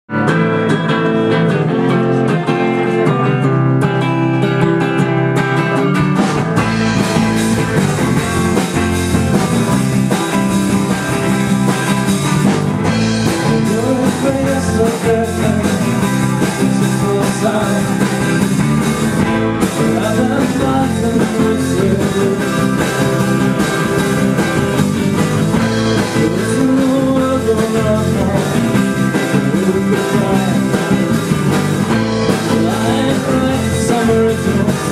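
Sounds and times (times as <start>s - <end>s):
bass and drums: 0.0s - 34.9s
electric guitar: 0.1s - 34.9s.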